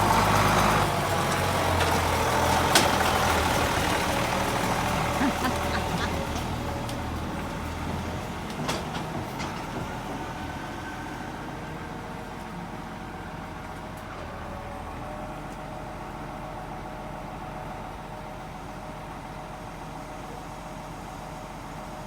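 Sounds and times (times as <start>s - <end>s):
vehicle engine idling: 0.0s - 21.8s.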